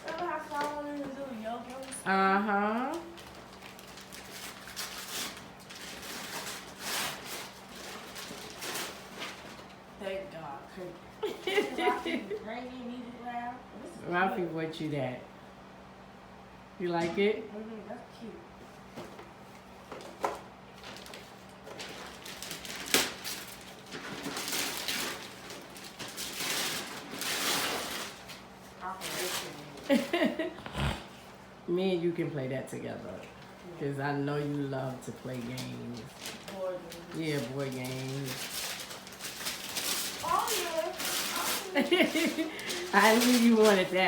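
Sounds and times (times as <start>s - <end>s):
gift wrap rustling and crinkling: 0.0s - 12.4s, 18.6s - 31.3s, 33.0s - 44.0s.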